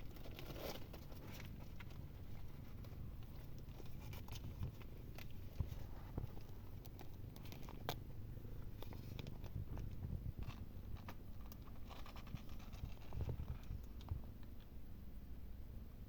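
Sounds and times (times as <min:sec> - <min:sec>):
small clicks and rustles: 0:00.0 - 0:14.8.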